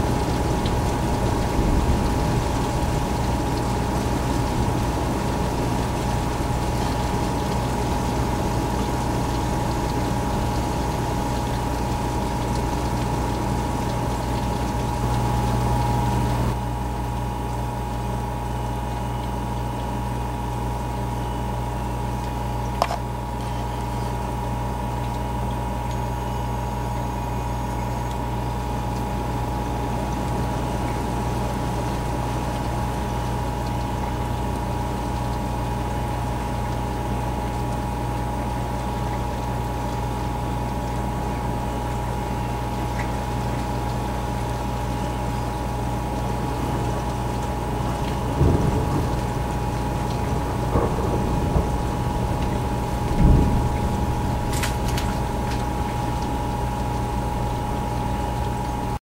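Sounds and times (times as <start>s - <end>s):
rain and hail hissing: 0.0s - 17.1s, 28.2s - 59.0s
constant hum: 0.0s - 59.0s.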